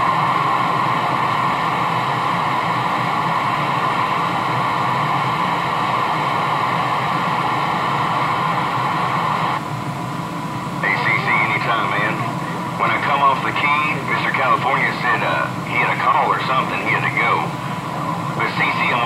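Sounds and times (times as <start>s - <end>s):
radio static hiss: 0.0s - 9.7s, 10.6s - 19.0s.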